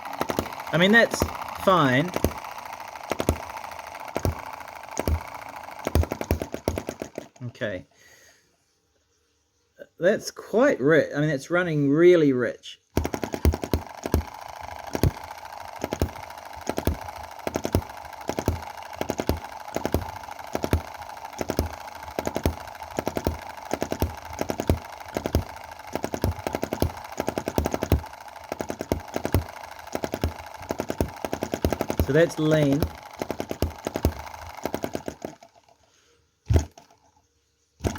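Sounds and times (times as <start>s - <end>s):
small engine firing bangs: 0.0s - 7.4s, 12.9s - 35.6s, 36.4s - 37.0s
steady background hum: 0.0s - 37.9s.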